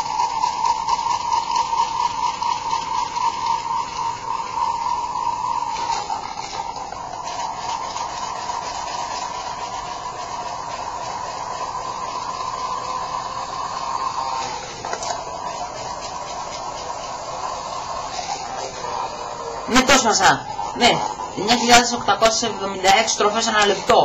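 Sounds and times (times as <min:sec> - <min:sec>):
gyroscope whirring whine: 0:00.0 - 0:24.0.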